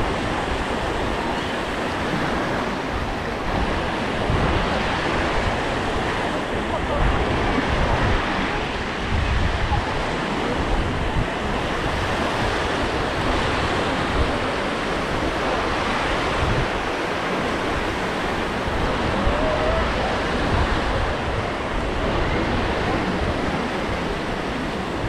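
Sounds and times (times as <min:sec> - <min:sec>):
small waves washing onto sand: 0:00.0 - 0:25.0
wind gusting on microphone: 0:00.0 - 0:25.0.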